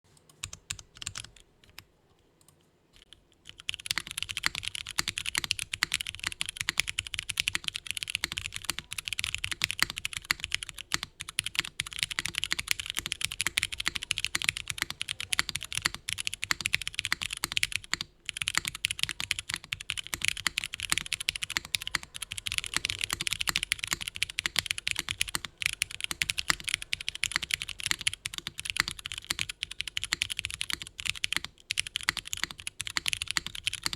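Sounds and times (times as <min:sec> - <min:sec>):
mechanical keyboard typing: 0:00.2 - 0:01.8, 0:02.4 - 0:33.9.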